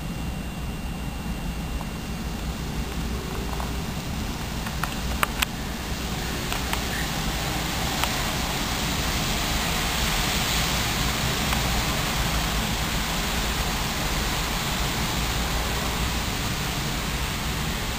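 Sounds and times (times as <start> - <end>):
steady hiss: 0.0 - 17.9.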